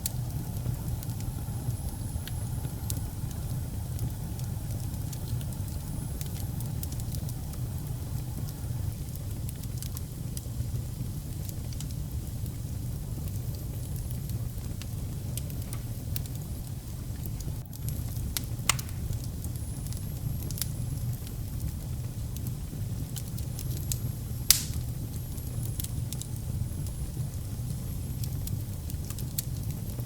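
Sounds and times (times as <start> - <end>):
fire crackling and popping: 0.0 - 30.0
wood fire rumbling: 0.0 - 30.0.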